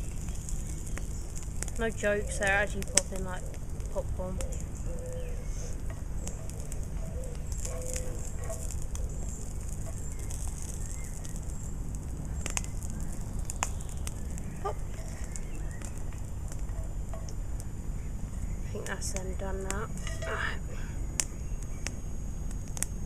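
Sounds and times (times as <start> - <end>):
frying pops and crackles: 0.0 - 23.0.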